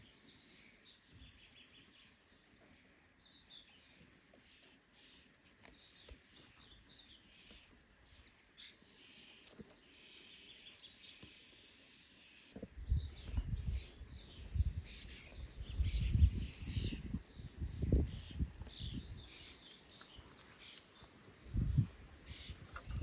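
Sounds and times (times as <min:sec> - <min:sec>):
birds chirping and twittering: 0:00.0 - 0:23.0.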